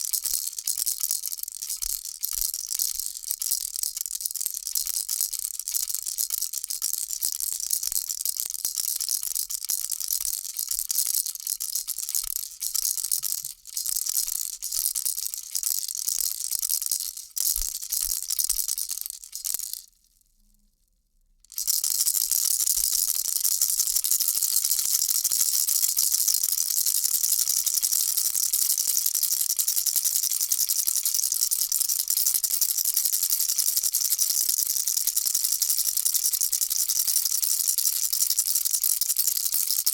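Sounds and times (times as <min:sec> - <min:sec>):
baby rattle shaken: 0:00.0 - 0:19.9, 0:21.5 - 0:39.9.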